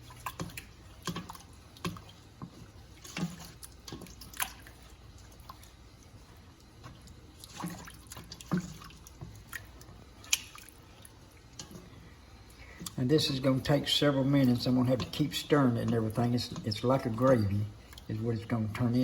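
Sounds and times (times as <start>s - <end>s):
sauce sloshing in skillet: 0.0s - 18.8s.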